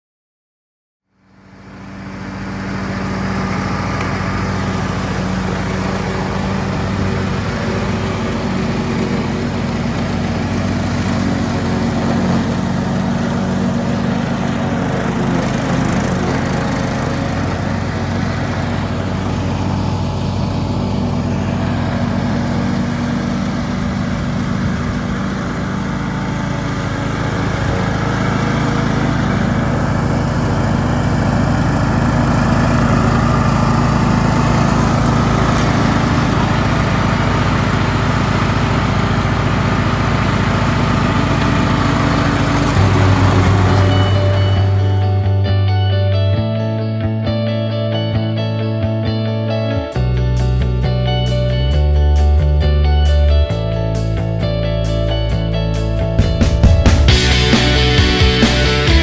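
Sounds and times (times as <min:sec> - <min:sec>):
small engine running: 0:01.1 - 0:45.6, 0:49.9 - 0:59.0.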